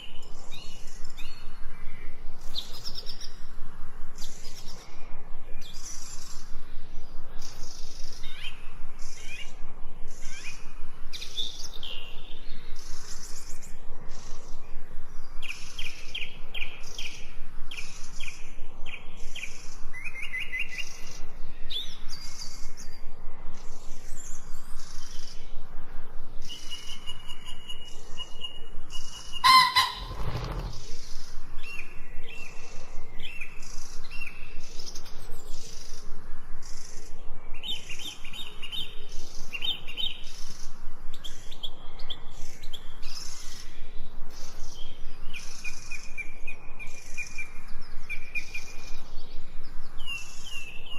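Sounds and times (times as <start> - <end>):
songbirds chirping and singing: 0.0 - 50.9.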